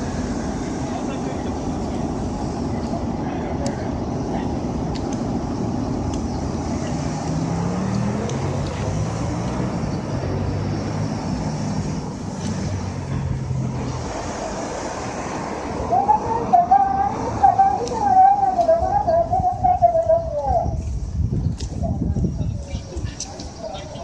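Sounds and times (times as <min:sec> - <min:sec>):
road traffic noise: 0:00.0 - 0:24.0
vehicle engine hum: 0:00.0 - 0:24.0.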